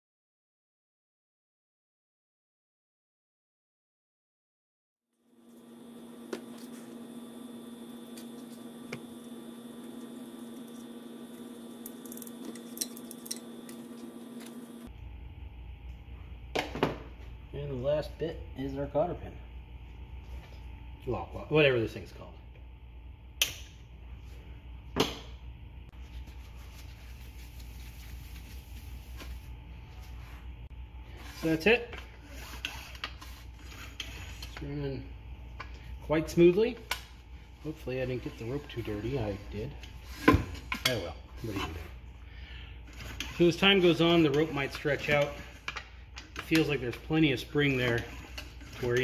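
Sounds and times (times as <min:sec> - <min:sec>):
steady low hum: 0:05.2 - 0:49.0.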